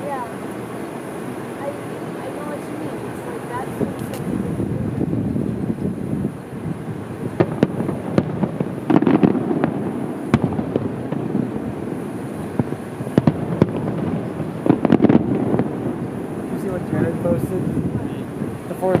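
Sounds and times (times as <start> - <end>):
fireworks booming and popping: 0.0 - 19.0
low background noise: 0.0 - 19.0.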